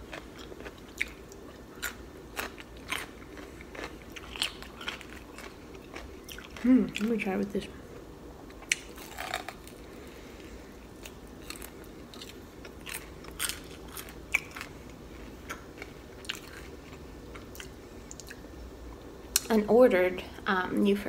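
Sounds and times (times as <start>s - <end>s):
person chewing food: 0.0s - 7.1s, 8.4s - 18.5s
food crunching: 0.0s - 7.4s, 8.4s - 18.5s.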